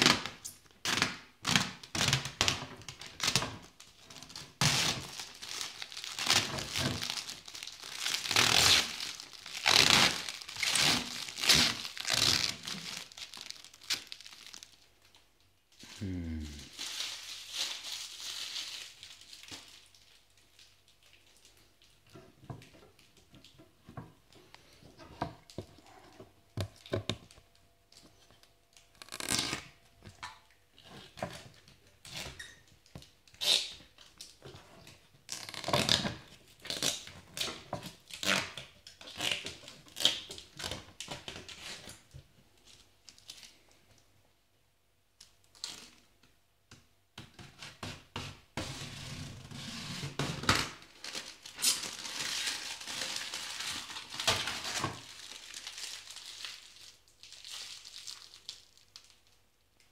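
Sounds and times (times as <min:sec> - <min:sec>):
plastic film peeling and crackling: 0:00.0 - 0:15.9, 0:16.7 - 0:43.8, 0:45.2 - 0:46.2, 0:47.2 - 0:59.9.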